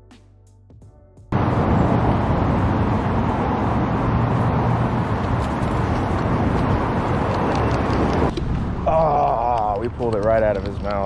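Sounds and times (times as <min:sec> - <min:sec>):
road traffic roar: 0:01.3 - 0:11.0.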